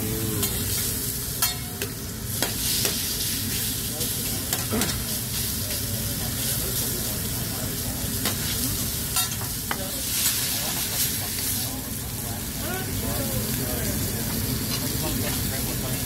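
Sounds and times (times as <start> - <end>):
food sizzling on griddle: 0.0 - 16.0.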